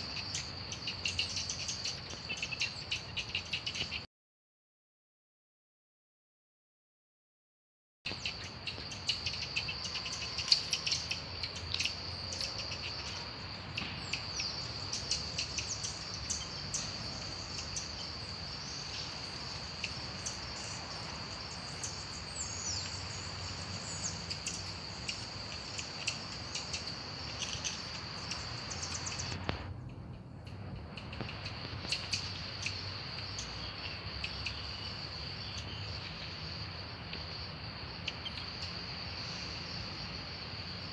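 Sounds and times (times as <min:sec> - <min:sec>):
insect chorus: 0:00.0 - 0:04.1, 0:08.1 - 0:40.9.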